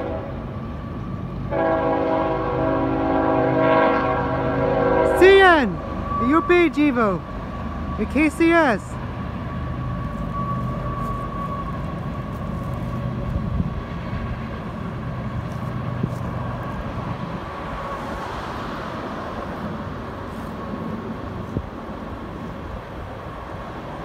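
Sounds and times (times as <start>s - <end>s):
diesel locomotive engines humming: 0.0s - 24.0s
freight cars rumbling: 0.0s - 24.0s.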